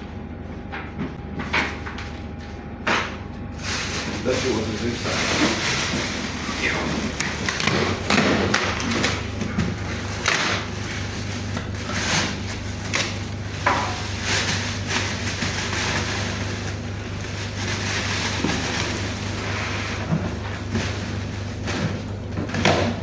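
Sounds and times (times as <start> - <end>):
steady low hum: 0.0 - 23.0
cardboard and plastic rustling: 0.6 - 23.0.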